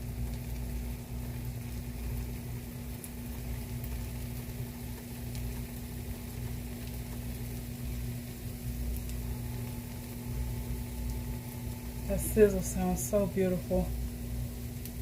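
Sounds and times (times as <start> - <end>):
batter sizzling in oil: 0.0 - 15.0
faint crackles: 0.0 - 15.0
steady low hum: 0.0 - 15.0.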